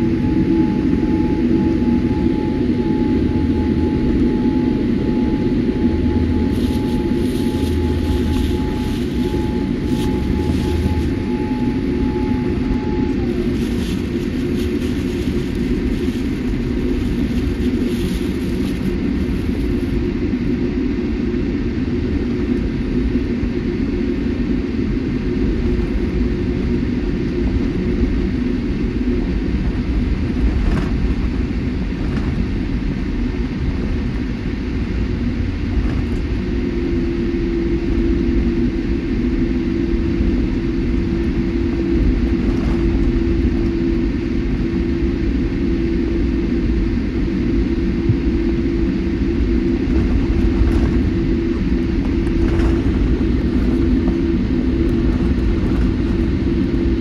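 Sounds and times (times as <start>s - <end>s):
airliner cabin rumble: 0.0s - 57.0s
steady hum: 0.0s - 57.0s.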